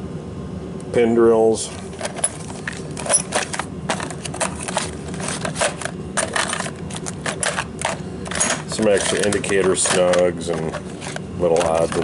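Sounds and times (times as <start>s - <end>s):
tools clattering in metal drawer: 1.6s - 12.0s.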